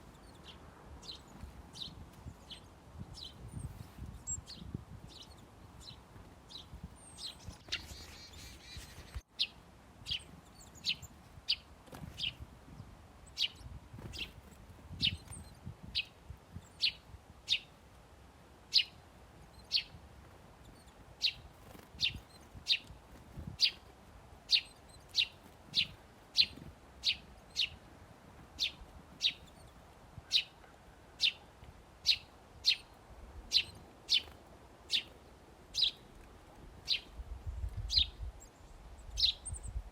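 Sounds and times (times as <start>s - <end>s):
songbird chirping: 0.0s - 17.9s, 18.7s - 39.9s.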